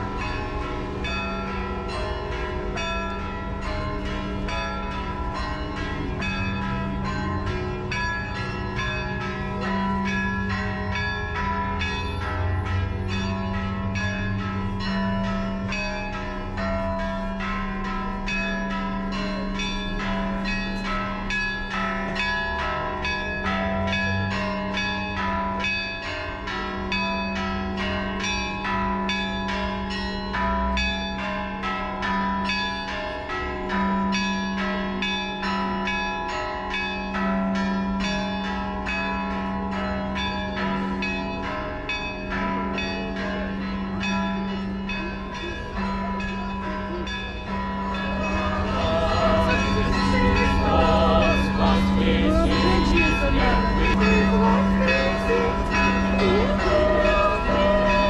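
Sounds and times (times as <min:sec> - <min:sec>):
deep bell ringing: 0:00.0 - 0:58.0
small church bells pealing: 0:00.0 - 0:58.0.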